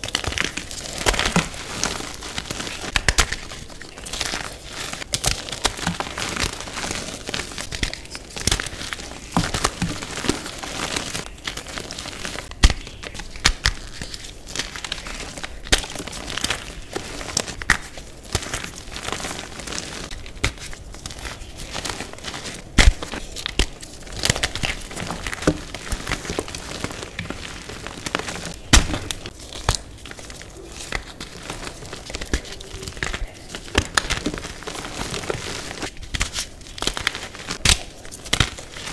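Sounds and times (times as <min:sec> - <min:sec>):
chalk pieces snapping: 0:00.0 - 0:38.9.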